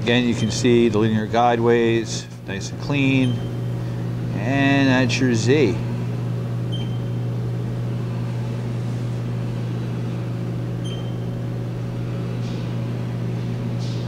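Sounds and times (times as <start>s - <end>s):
mill machine humming: 0.0s - 14.0s.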